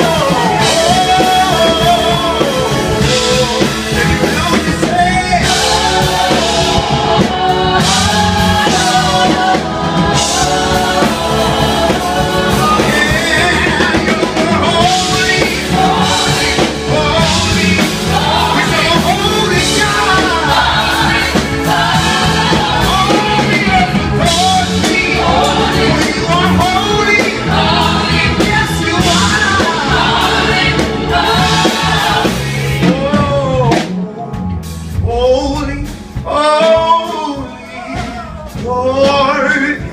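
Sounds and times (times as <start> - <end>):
man singing lead: 0.0 - 9.6, 10.3 - 21.8, 22.6 - 30.6, 32.5 - 34.3, 35.0 - 39.9
backing vocalists singing: 0.0 - 33.9
band accompaniment: 0.0 - 39.9.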